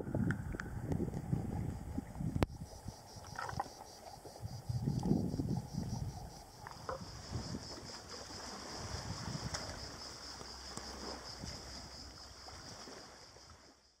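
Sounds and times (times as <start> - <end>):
seawater lapping on rocky shore: 0.0 - 13.9
cicadas buzzing: 0.1 - 14.0.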